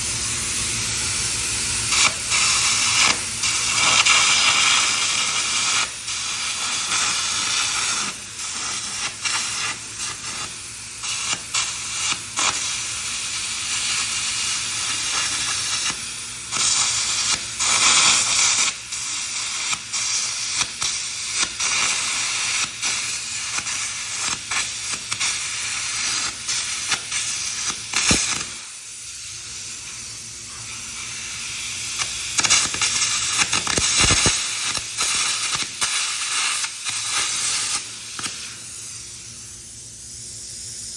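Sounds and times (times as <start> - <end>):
blast of compressed air: 0.0 - 40.9
electric arc crackling and hissing: 0.0 - 40.9.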